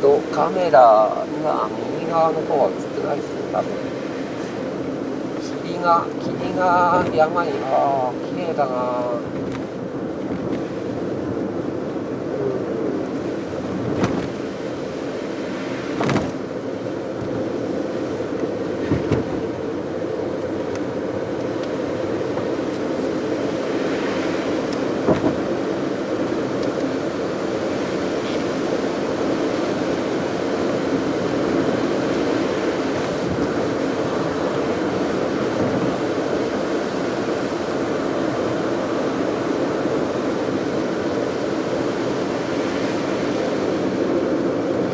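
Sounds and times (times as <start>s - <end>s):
tyres on wet road: 0.0s - 44.9s.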